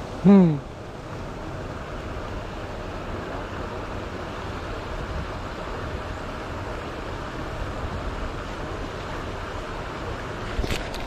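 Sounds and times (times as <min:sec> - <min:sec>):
water splashing from aerators: 0:00.0 - 0:11.0.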